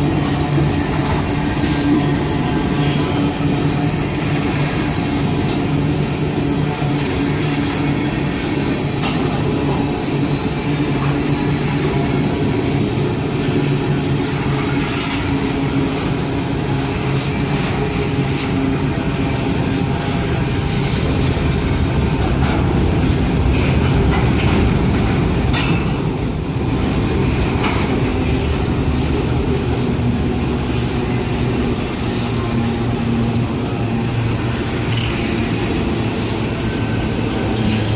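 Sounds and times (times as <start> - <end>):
train wheels rumbling on rails: 0.0 - 37.9
wheels clacking over rail joints: 0.0 - 37.9.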